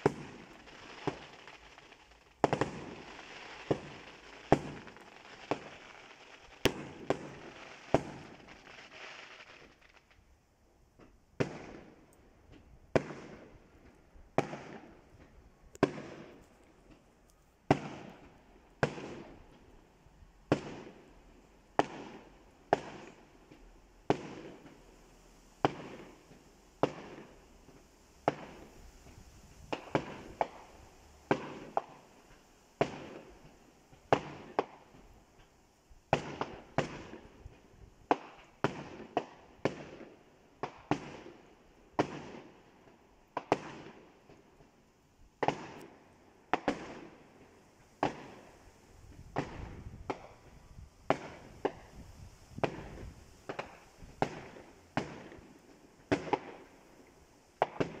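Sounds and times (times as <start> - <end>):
fireworks bangs: 0.0 - 10.3, 11.0 - 17.0, 17.6 - 19.7, 20.4 - 21.1, 21.8 - 24.8, 25.6 - 27.4, 28.2 - 35.1, 36.1 - 42.6, 43.3 - 44.7, 45.4 - 47.3, 48.0 - 58.0.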